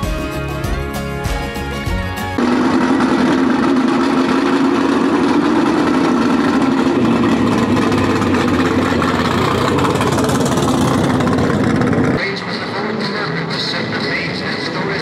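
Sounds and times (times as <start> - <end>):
car engine running loudly: 2.2 - 15.0.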